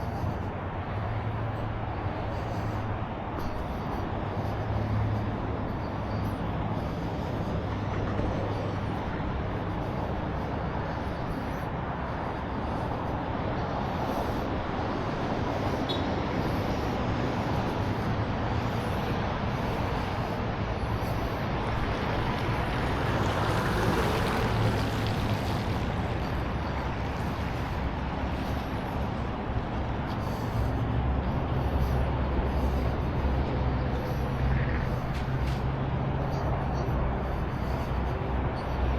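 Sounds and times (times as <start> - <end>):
traffic noise: 0.0 - 38.9
vehicle engine hum: 0.0 - 38.9.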